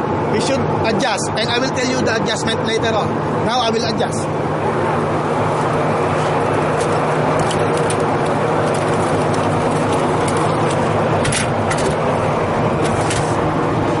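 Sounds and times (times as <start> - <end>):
loud mechanical humming: 0.0 - 14.0.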